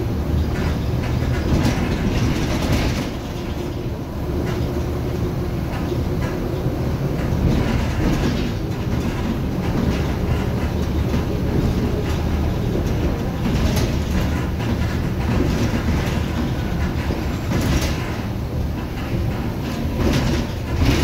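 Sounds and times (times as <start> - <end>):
bus diesel engine rumbling: 0.0 - 21.0.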